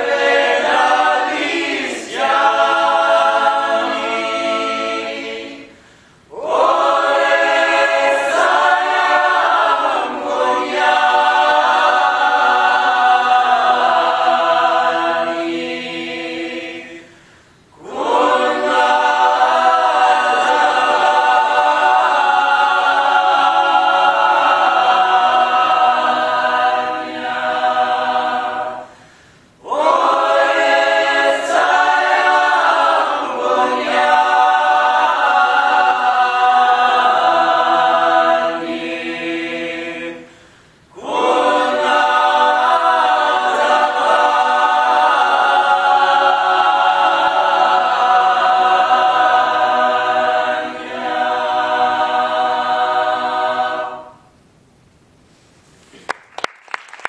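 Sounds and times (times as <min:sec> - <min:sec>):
mixed choir singing in harmony: 0:00.0 - 0:54.4.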